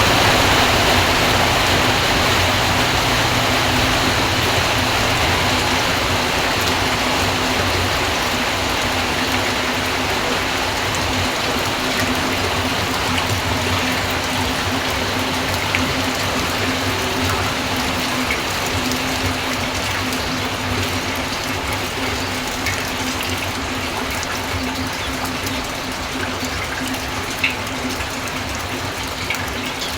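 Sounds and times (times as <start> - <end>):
rain falling and splashing: 0.0 - 29.9.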